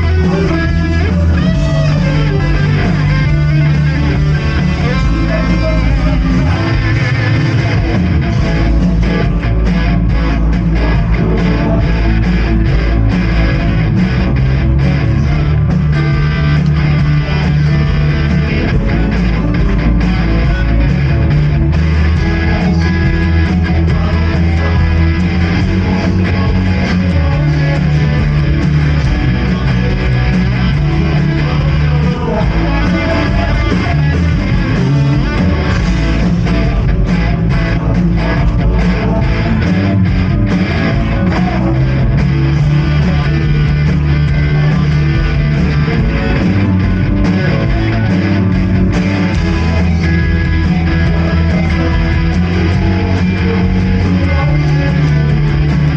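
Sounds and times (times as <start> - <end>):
bass guitar: 0.0 - 55.9
electric guitar: 0.0 - 55.9
steady drum beat: 0.0 - 55.9.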